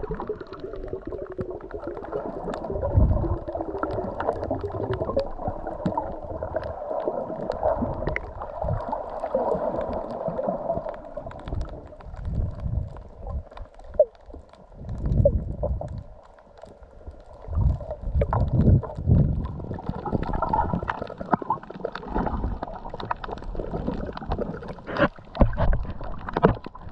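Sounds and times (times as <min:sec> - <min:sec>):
water gurgling and sloshing: 0:00.0 - 0:26.9.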